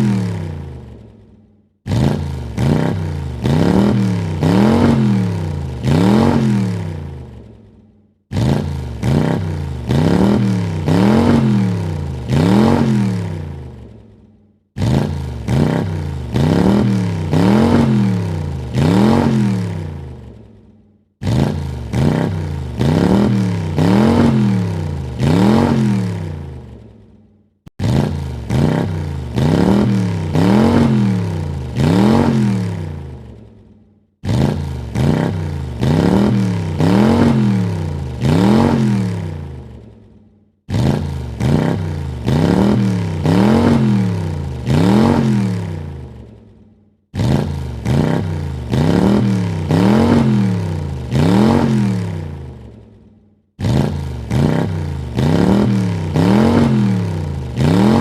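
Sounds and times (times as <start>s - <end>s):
car engine revving: 1.8s - 7.5s, 8.3s - 14.0s, 14.8s - 20.6s, 21.2s - 26.9s, 27.7s - 33.4s, 34.2s - 39.9s, 40.7s - 46.4s, 47.2s - 52.8s, 53.6s - 58.0s.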